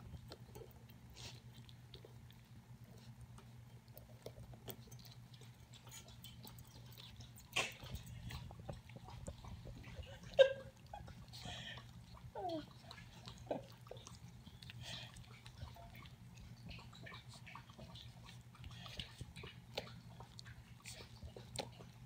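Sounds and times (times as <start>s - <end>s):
puppies lapping milk: 0.0s - 22.0s.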